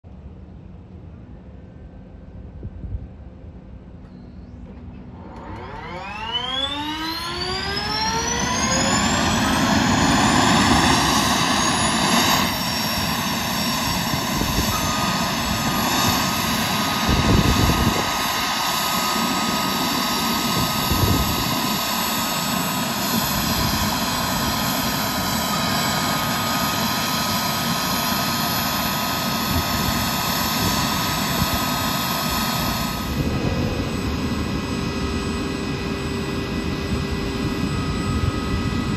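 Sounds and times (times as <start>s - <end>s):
gas turbine whine: 0.0s - 38.9s.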